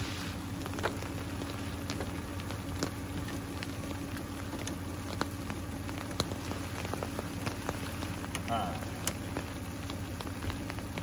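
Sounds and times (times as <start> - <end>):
rain pattering: 0.0 - 11.0
vehicle engine idling: 0.0 - 11.0
drips ticking: 0.4 - 11.0.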